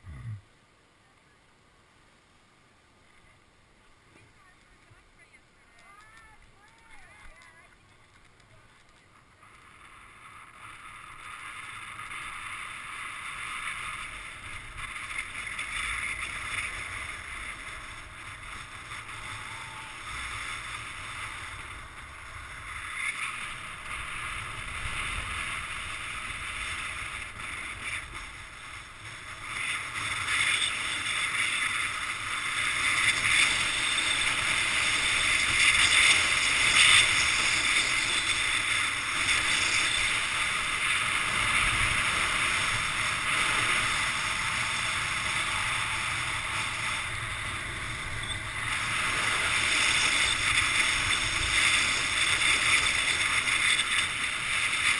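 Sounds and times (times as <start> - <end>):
wind noise: 5.3 - 54.9
skis scraping over snow: 6.6 - 54.9.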